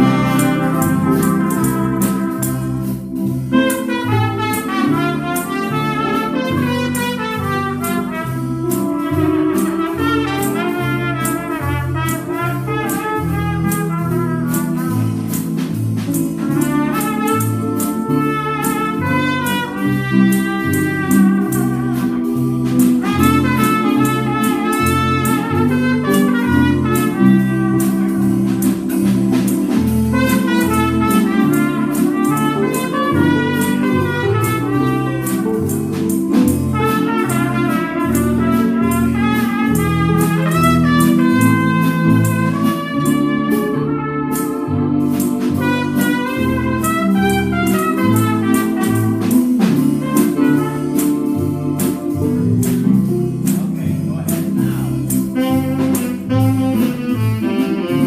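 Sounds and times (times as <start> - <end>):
dance band playing swing: 0.0 - 58.0
trumpet melody: 0.0 - 58.0
walking bass line: 0.0 - 58.0.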